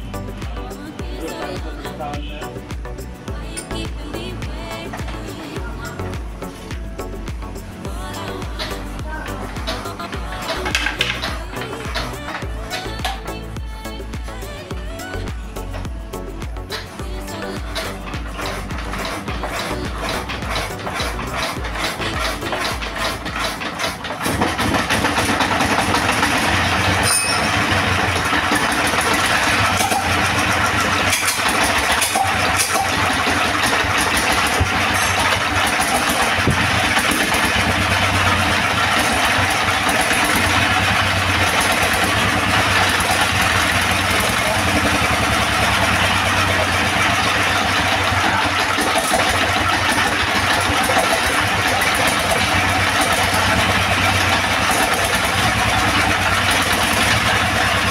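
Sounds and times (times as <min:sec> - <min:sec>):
diesel engine starting and running: 0:00.0 - 0:57.9.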